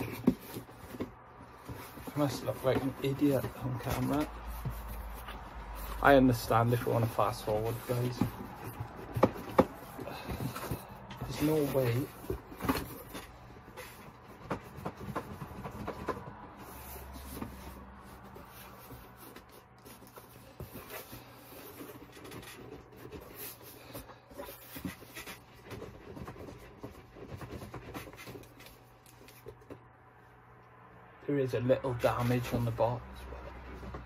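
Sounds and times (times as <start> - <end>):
cardboard packaging scraping and rustling: 0.0 - 30.0, 31.8 - 34.0.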